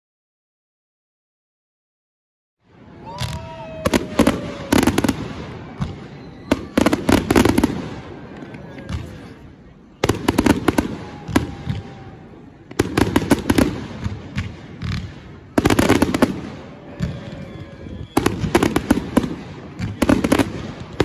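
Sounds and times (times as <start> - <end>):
fireworks bursting with sharp bangs: 2.7 - 21.0.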